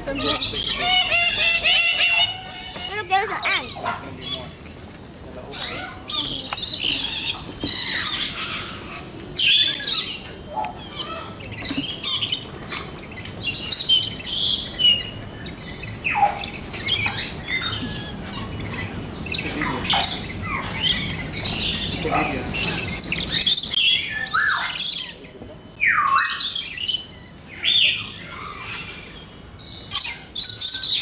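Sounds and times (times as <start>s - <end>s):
parrots screeching and squawking: 0.1s - 4.6s, 5.5s - 25.2s, 25.8s - 29.2s.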